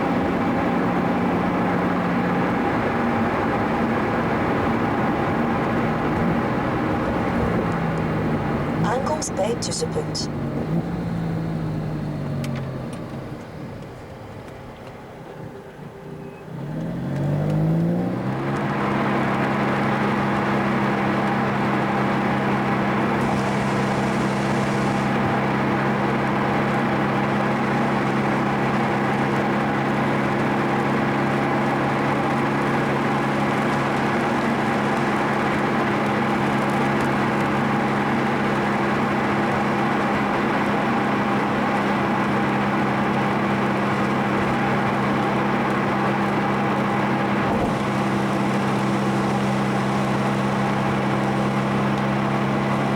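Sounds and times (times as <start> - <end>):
car engine from inside cabin: 0.0 - 52.9.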